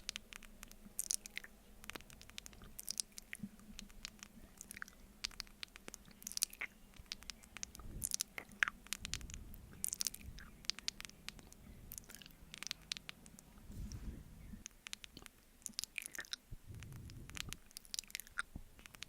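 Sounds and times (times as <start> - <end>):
mouth sounds eating honey: 0.0 - 19.0.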